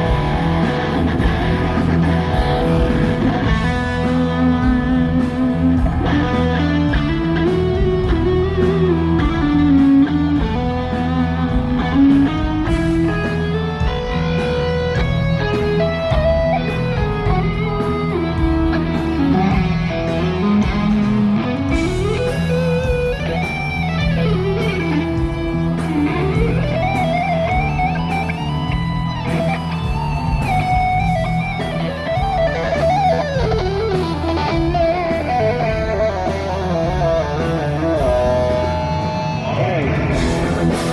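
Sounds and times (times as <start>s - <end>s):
electric guitar solo: 0.0s - 40.9s
live band playing: 0.0s - 40.9s.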